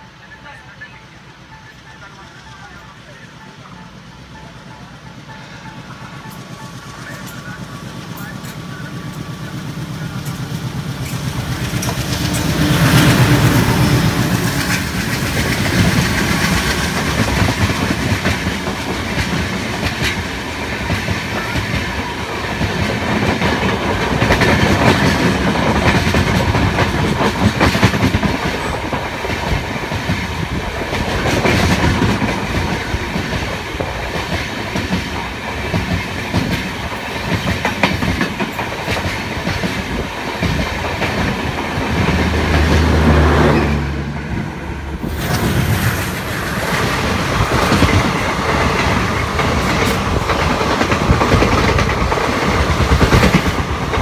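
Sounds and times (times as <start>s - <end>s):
diesel locomotive engine passing: 0.0s - 54.0s
wheels clacking over rail joints: 6.2s - 54.0s.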